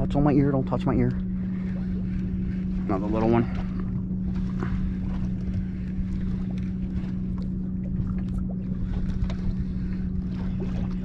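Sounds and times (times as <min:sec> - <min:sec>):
electric trolling motor humming: 0:00.0 - 0:11.0
wind rumble on microphone: 0:00.0 - 0:11.0.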